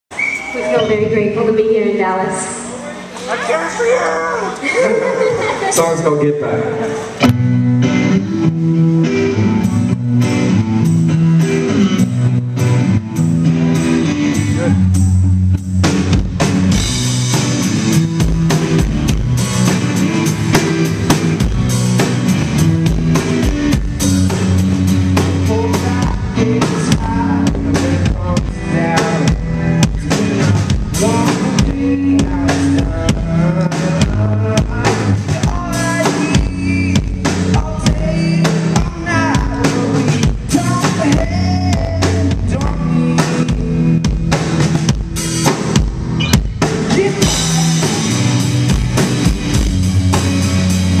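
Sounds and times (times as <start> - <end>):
electric guitar: 6.6 - 51.0
drum kit beat: 7.2 - 51.0.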